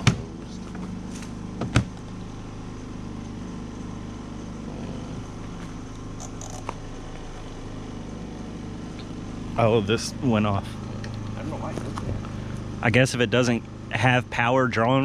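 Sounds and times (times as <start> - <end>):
spin-dryer motor humming: 0.0 - 15.0.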